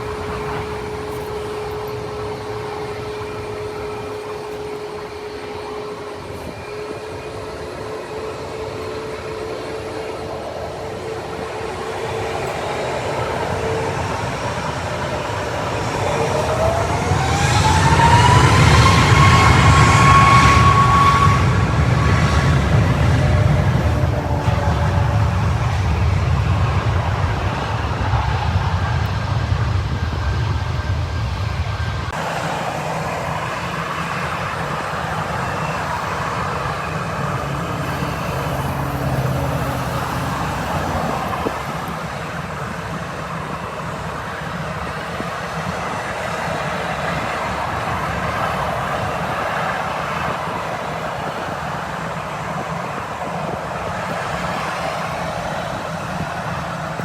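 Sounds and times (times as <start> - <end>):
jet engines higher-pitched noise: 0.0 - 57.0
jet engines low rumble: 0.0 - 57.0.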